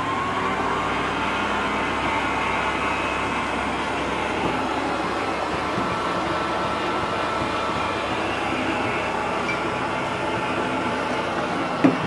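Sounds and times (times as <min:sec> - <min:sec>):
kitchen mixer motor whirring: 0:00.0 - 0:12.0.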